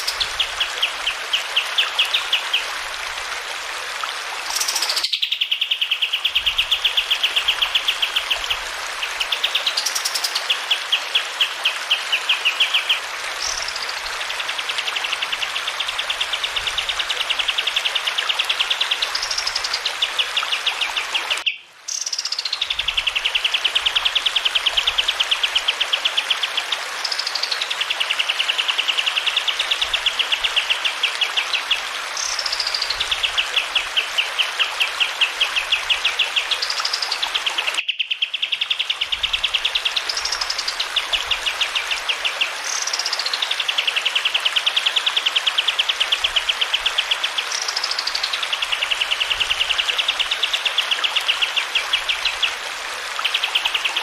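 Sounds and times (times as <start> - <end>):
running water hiss: 0.0 - 37.8, 38.6 - 54.0.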